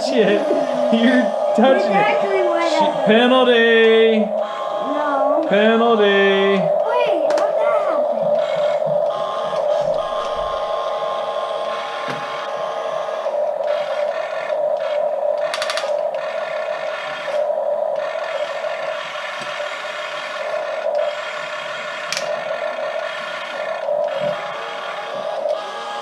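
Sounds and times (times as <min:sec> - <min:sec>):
toy electric motors whining: 0:00.0 - 0:26.0.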